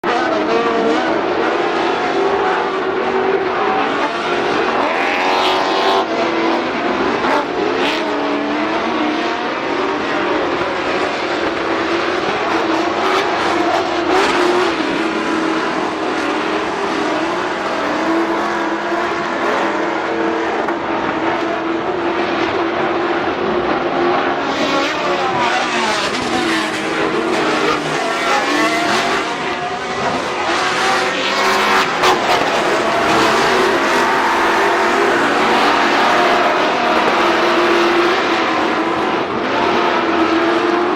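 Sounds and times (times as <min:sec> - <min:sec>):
off-road vehicle engines revving: 0:00.0 - 0:40.9.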